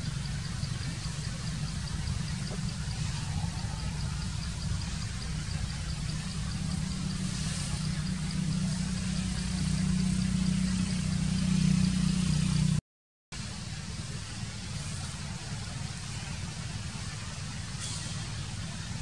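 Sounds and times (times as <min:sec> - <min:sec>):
vehicle engine humming: 0:00.0 - 0:12.8, 0:13.4 - 0:19.0.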